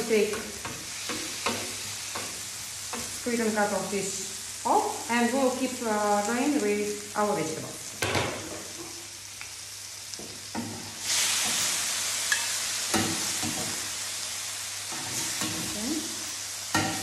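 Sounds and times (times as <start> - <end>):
seafood sizzling in hot oil: 0.0 - 17.0.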